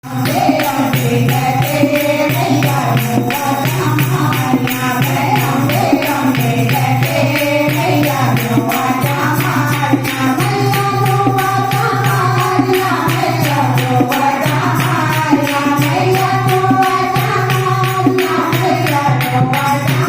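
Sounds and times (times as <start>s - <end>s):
hand percussion beat: 0.0s - 20.0s
voices singing together: 0.0s - 20.0s.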